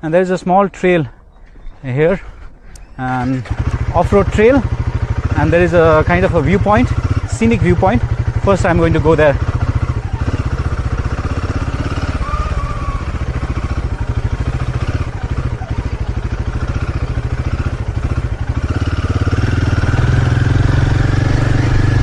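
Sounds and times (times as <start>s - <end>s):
motorcycle engine running: 3.0s - 22.0s.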